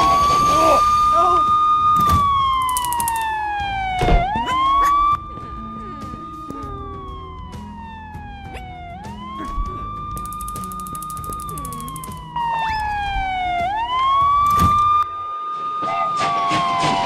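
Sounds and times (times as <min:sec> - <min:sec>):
ambulance siren wailing: 0:00.0 - 0:17.0
soft background music: 0:01.1 - 0:17.0.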